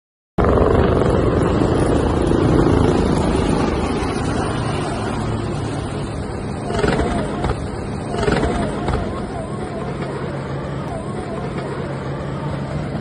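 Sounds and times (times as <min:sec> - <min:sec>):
helicopter rotors chopping: 0:00.4 - 0:13.0.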